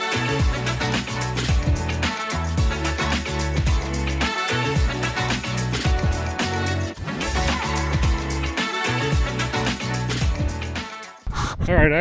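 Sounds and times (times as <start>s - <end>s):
background music with drum beat: 0.0s - 11.2s
bass line: 0.2s - 10.8s.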